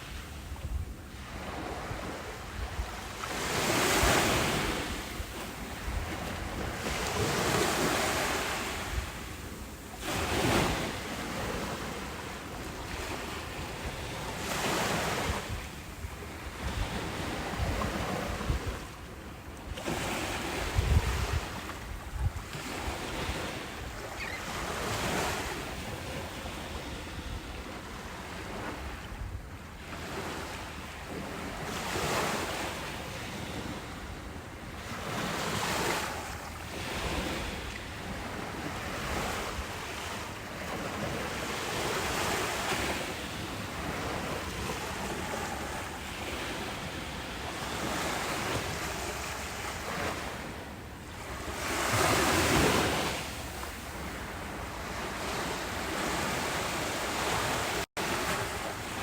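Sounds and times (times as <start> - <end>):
ocean waves breaking: 0.0 - 29.2, 29.8 - 59.0
wind rumble on microphone: 0.0 - 59.0.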